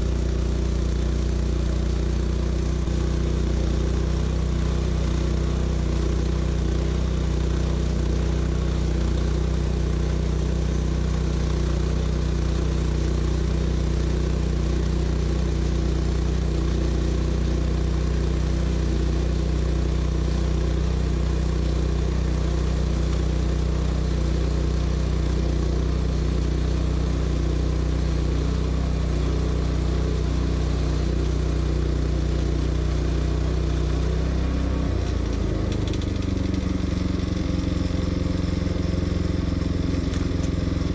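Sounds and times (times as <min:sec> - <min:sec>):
gas engine running steadily: 0:00.0 - 0:40.9.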